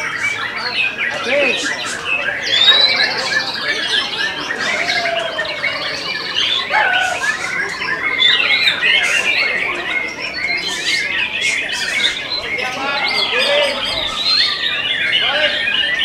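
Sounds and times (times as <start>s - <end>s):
birds singing whistles and trills: 0.0s - 16.0s.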